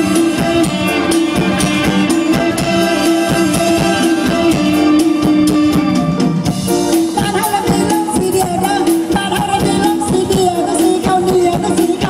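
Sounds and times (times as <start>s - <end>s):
drum kit beat: 0.0s - 12.0s
live band through loud speakers: 0.0s - 12.0s.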